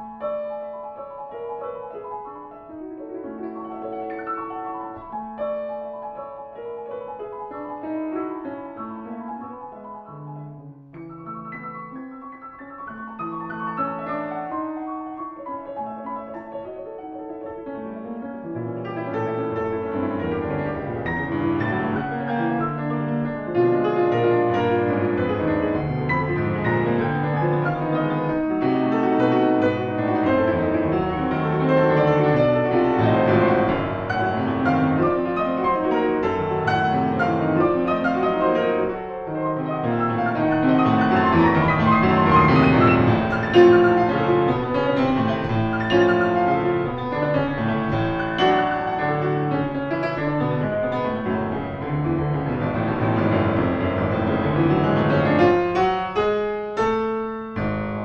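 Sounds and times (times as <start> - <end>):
solo grand piano playing: 0.0 - 58.0.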